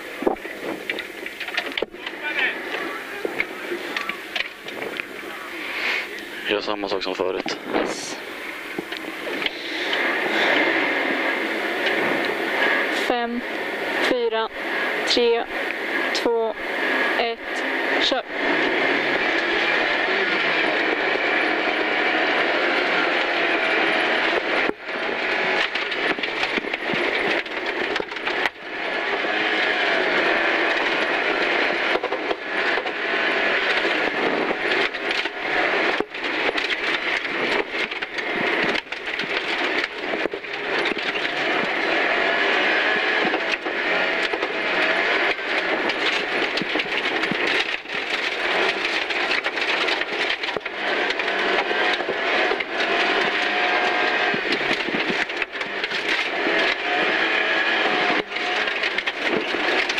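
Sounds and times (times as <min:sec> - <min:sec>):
gravel and road noise: 0:00.0 - 0:59.9
rally car engine running hard: 0:00.0 - 0:59.9.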